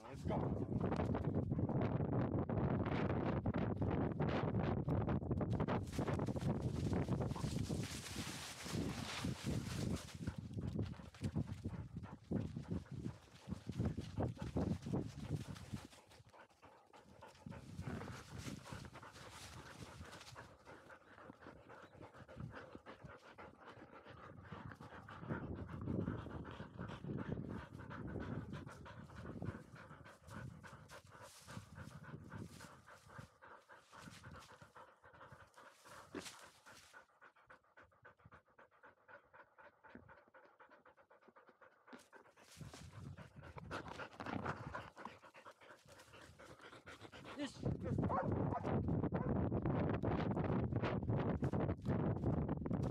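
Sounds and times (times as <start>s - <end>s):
dog panting hard: 0.0s - 1.8s, 5.6s - 52.9s.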